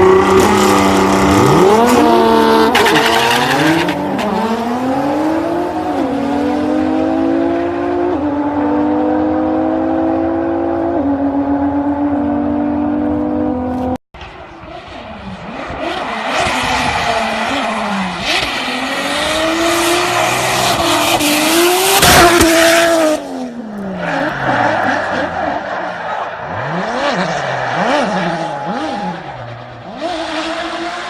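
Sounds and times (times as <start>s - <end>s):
car engine revving: 0.0s - 14.0s, 14.6s - 31.0s.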